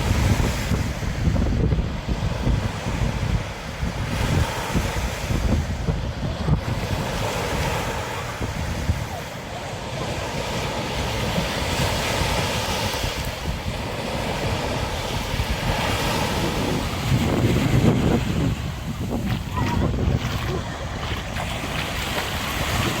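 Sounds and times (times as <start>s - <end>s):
surf breaking: 0.0s - 23.0s
wind buffeting microphone: 0.0s - 23.0s.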